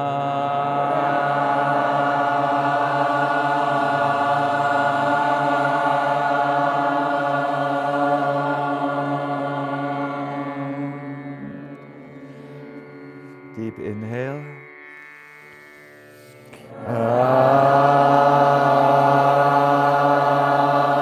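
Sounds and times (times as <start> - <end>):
man chanting long held tone: 0.0 - 14.8, 16.4 - 21.0
drone box drone: 0.0 - 21.0.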